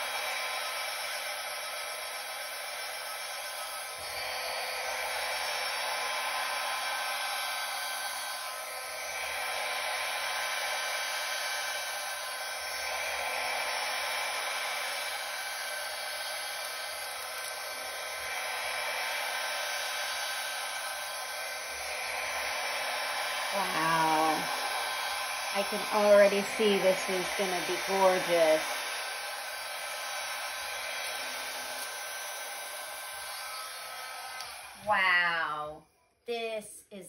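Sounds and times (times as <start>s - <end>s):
hair dryer running: 0.0s - 35.8s.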